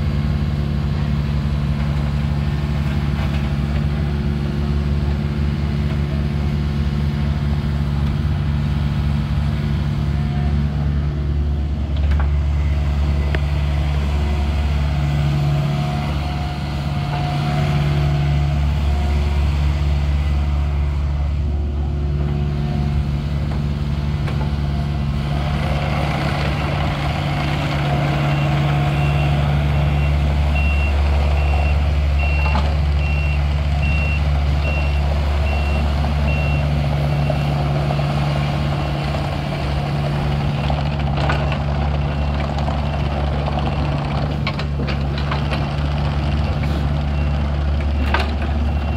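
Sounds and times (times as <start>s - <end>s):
excavator diesel engine under load: 0.0s - 48.9s
excavator travelling on tracks: 0.0s - 48.9s.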